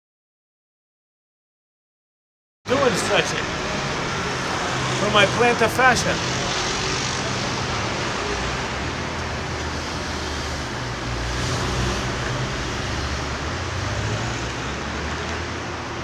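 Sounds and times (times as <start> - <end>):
street traffic noise: 2.7 - 16.0.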